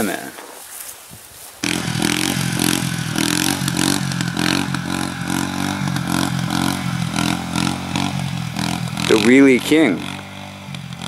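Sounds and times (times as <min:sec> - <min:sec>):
atv engine revving: 0:01.6 - 0:11.0.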